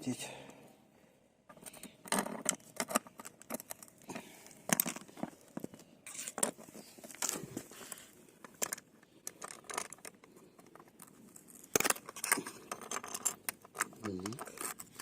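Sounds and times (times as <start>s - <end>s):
hands handling car part: 1.5s - 15.0s.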